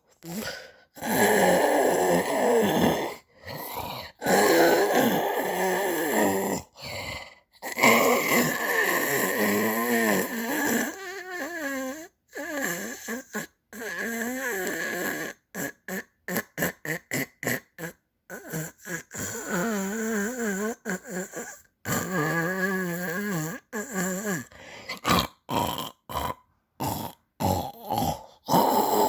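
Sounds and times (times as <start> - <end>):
snoring and groaning: 0.2 - 29.0.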